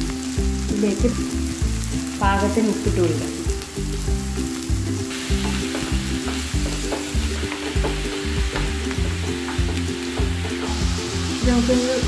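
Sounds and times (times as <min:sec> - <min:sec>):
background music with low notes: 0:00.0 - 0:12.0
food frying in oil: 0:00.0 - 0:12.0.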